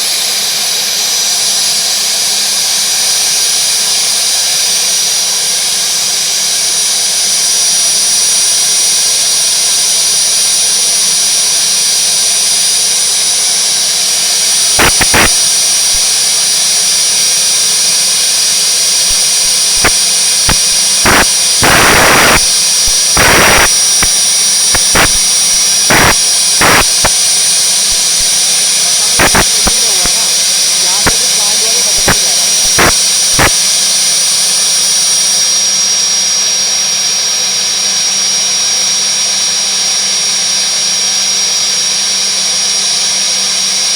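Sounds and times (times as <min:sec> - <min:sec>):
helicopter engine whining: 0:00.0 - 0:39.0.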